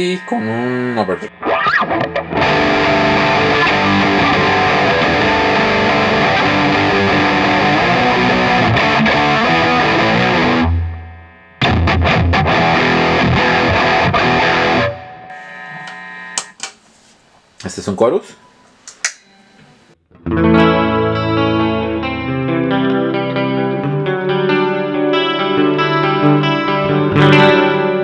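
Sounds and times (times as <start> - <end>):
distorted electric guitar: 0.0 - 16.5, 20.1 - 28.0.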